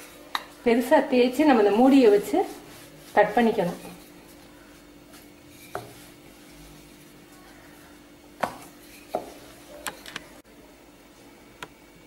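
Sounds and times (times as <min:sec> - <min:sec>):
rolling pin rolling dough: 0:00.0 - 0:10.4.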